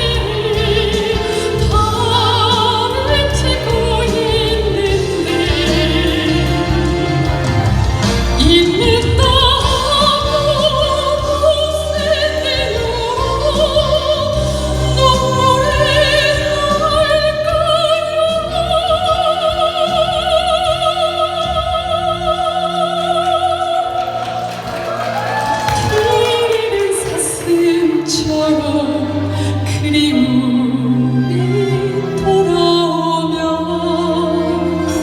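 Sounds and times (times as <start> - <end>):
soprano singing operatically: 0.0 - 7.4, 8.4 - 35.0
musical accompaniment: 0.0 - 35.0.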